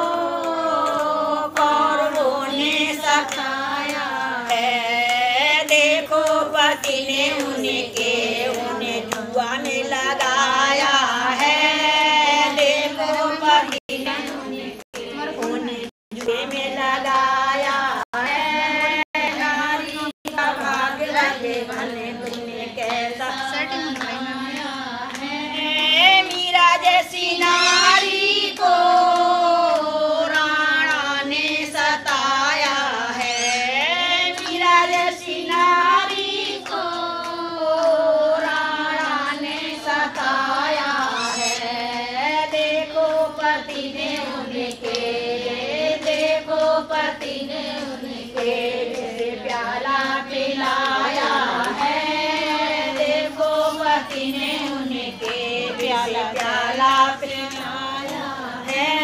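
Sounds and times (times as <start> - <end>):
women singing slow melody: 0.0 - 59.0.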